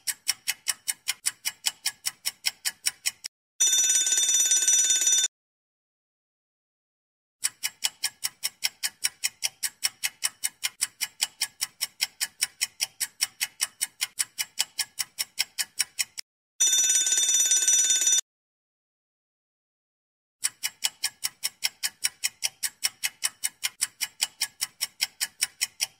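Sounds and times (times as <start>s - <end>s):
clock ticking fast: 0.0s - 5.3s, 7.4s - 18.2s, 20.4s - 25.9s.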